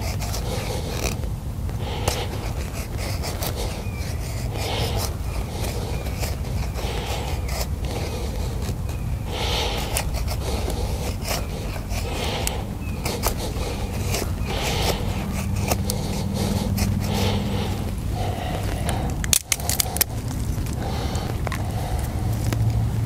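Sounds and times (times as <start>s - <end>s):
knife scraping wood: 0.0s - 21.9s
low steady hum: 0.0s - 23.0s.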